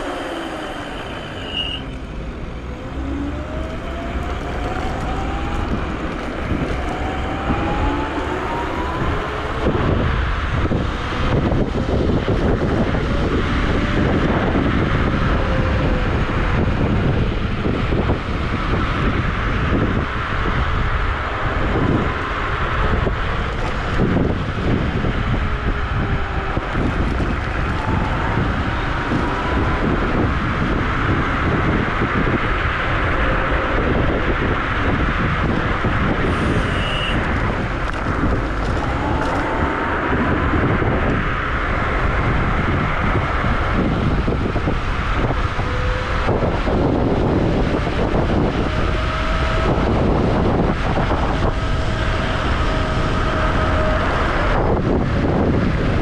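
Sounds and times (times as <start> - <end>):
tyres rumbling on road: 0.0 - 56.0
wind buffeting microphone: 0.0 - 56.0.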